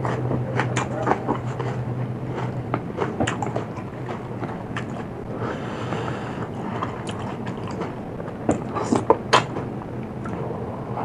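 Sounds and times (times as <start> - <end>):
chewing and crunching food: 0.0 - 10.5
steady low hum: 0.0 - 11.0.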